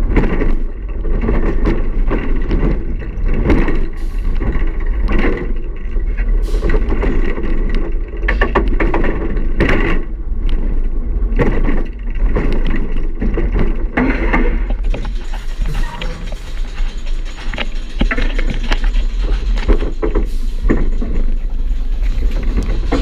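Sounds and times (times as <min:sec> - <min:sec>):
coaster train rattling on track: 0:00.0 - 0:23.0.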